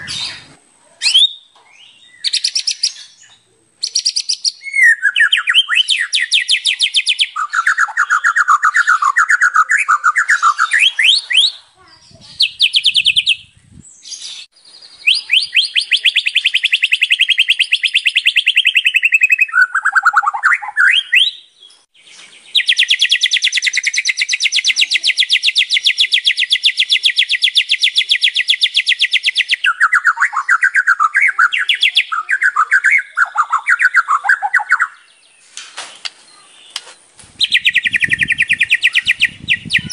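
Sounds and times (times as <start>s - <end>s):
songbird singing rapid notes: 0.0s - 39.9s.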